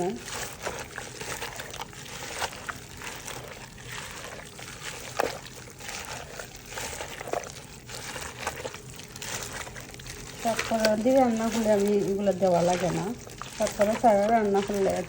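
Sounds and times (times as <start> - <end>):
wet sloshing of meat in marinade: 0.0 - 15.0.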